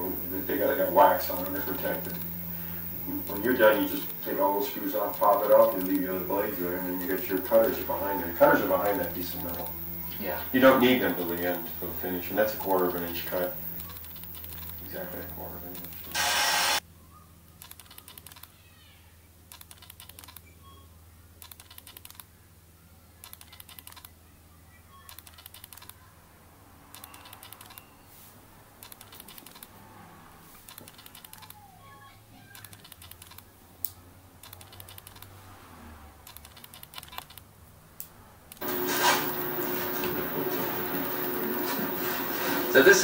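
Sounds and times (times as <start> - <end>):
faint steady hum: 0.0 - 35.4.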